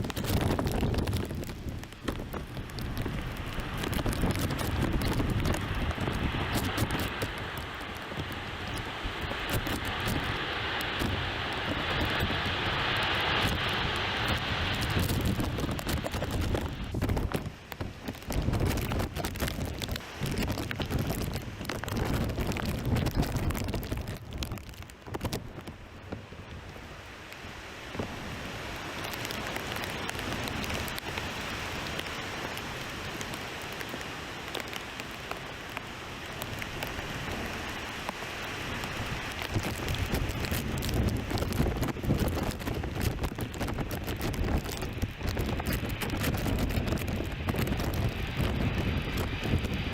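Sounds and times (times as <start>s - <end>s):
raindrops ticking: 0.0s - 25.8s, 29.0s - 49.8s
wind buffeting microphone: 0.0s - 27.0s, 36.5s - 49.9s
steady rain hiss: 0.0s - 49.9s.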